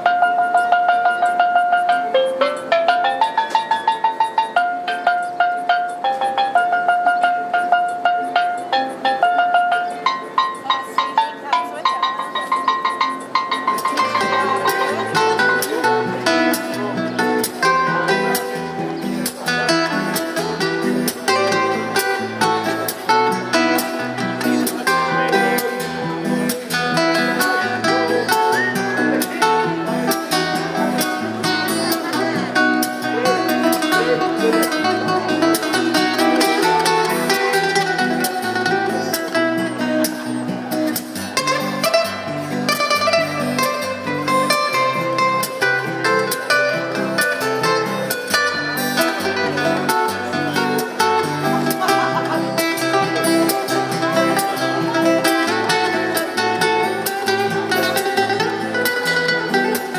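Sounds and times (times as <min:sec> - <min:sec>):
acoustic guitars playing: 0:00.0 - 0:59.9.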